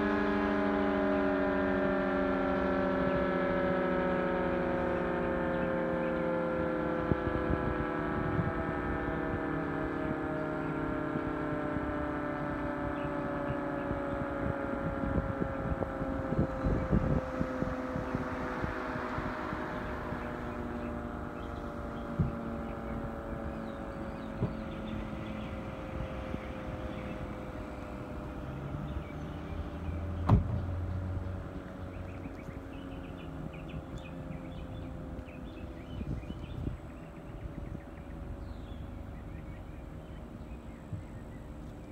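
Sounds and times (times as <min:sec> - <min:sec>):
warning siren winding down: 0:00.0 - 0:41.9
wind rumble on microphone: 0:00.0 - 0:41.9.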